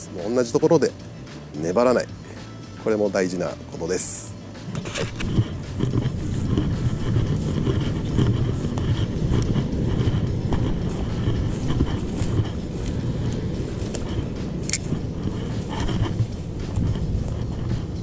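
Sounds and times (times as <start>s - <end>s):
wind buffeting microphone: 3.0s - 18.0s.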